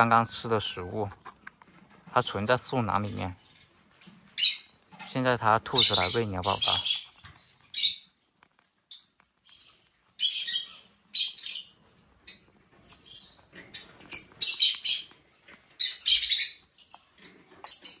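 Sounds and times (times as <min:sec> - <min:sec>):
parrot chicks cheeping: 0:00.0 - 0:18.0.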